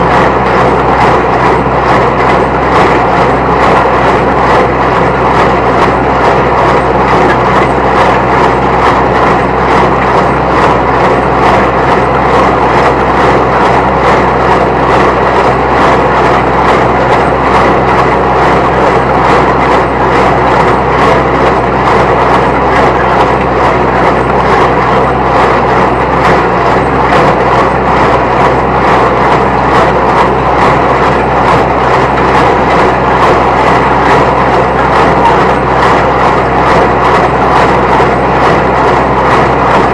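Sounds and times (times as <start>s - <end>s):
baler rhythmic clatter: 0.0s - 39.9s
tractor engine running: 0.0s - 39.9s.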